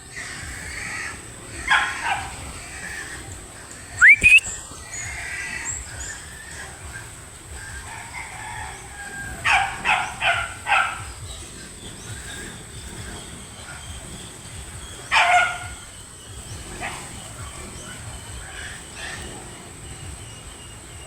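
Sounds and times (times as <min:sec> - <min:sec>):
chickens squawking: 0:00.0 - 0:21.0.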